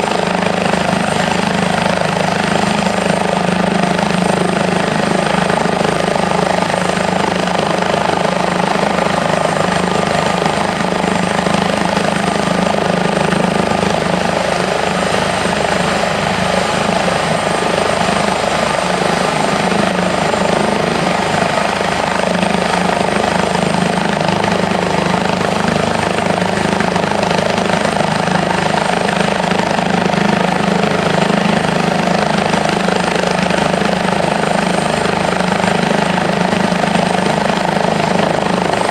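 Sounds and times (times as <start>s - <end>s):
helicopter engine whine: 0.0s - 38.9s
helicopter rotor noise: 0.0s - 38.9s.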